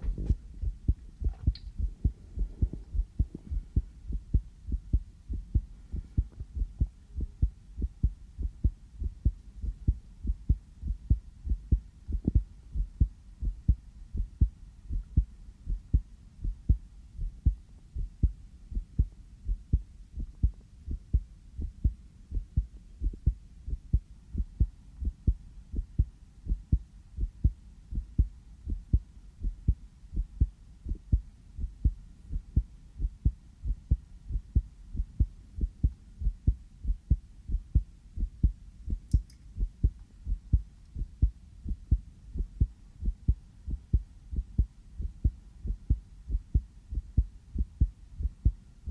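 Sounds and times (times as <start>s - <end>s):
heartbeat thumps: 0.0s - 48.9s.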